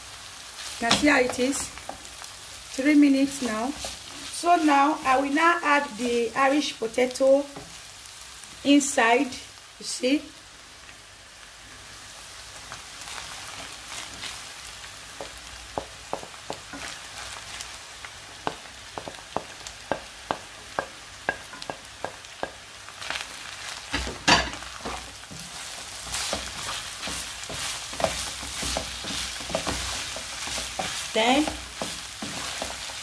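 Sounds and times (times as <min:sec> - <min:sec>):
meat sizzling in oil: 0:00.0 - 0:33.0.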